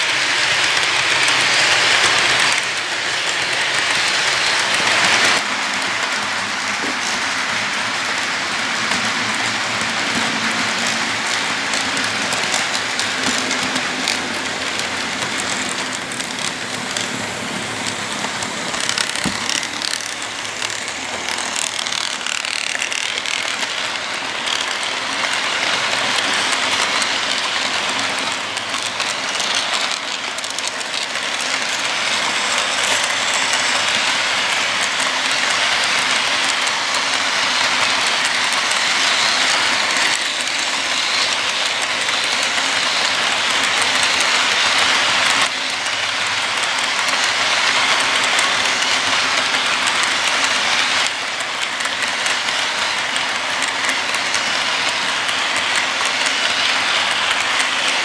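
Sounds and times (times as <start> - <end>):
model train cars rattling: 0.0 - 58.0
wheels clicking over rail joints: 0.0 - 58.0.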